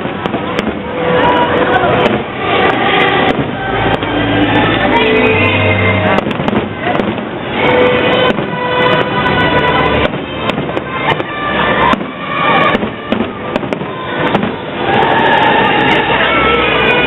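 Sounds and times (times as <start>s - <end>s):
fireworks popping and banging: 0.0s - 5.0s, 5.9s - 17.0s
music playing: 0.0s - 17.0s.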